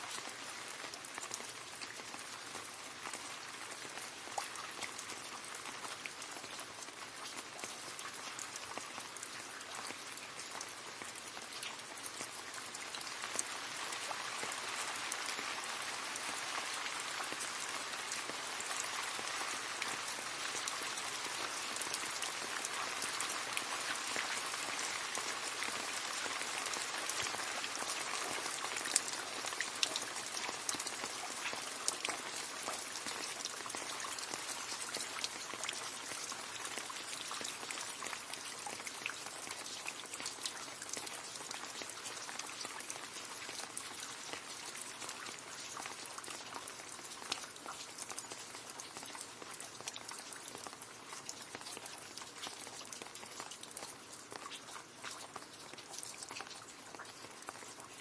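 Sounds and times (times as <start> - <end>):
rain falling into a puddle: 0.0 - 58.0.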